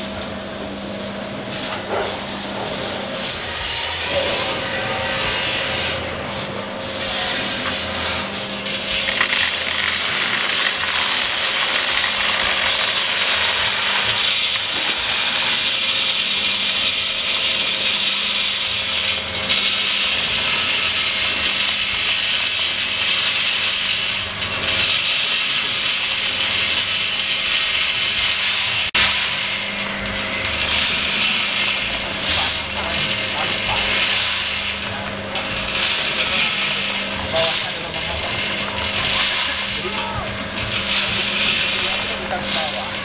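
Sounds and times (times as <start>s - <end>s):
roaster motor hum: 0.0s - 43.0s
coffee beans rattling: 7.6s - 43.0s.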